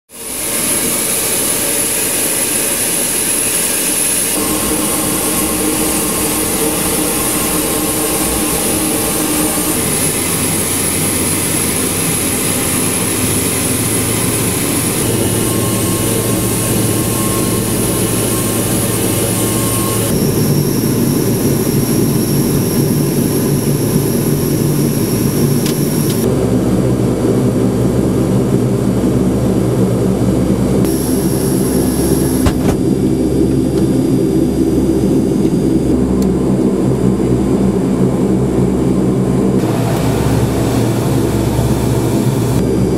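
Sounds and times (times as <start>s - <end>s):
turboprop engines droning: 0.1s - 42.9s.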